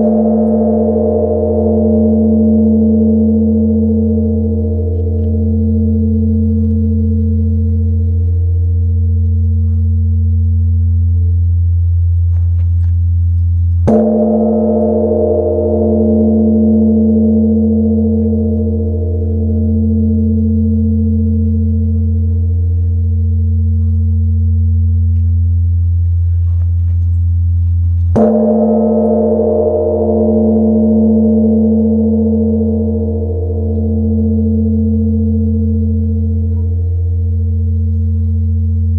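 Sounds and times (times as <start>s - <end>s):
bronze temple bell ringing: 0.0s - 11.2s, 13.4s - 38.9s.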